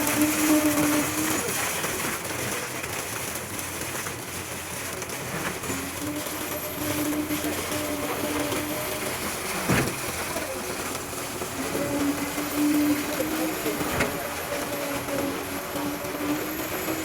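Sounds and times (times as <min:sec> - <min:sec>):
continuous rushing noise: 0:00.0 - 0:17.0
machinery humming: 0:00.0 - 0:17.0.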